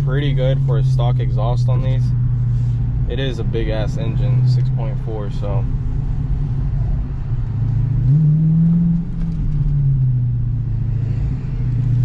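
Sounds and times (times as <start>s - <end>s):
car engine drone from inside cabin: 0.0s - 12.0s.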